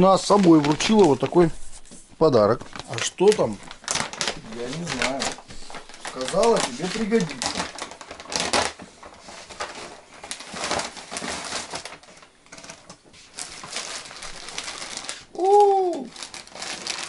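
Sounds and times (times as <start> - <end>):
paper and plastic bags rustling: 0.0 - 17.0.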